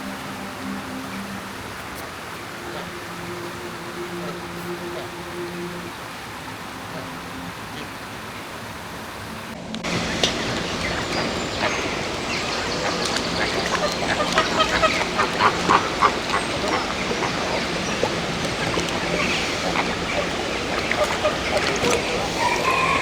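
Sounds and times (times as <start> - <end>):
background hiss: 0.0 - 23.0
birds calling: 0.0 - 23.0.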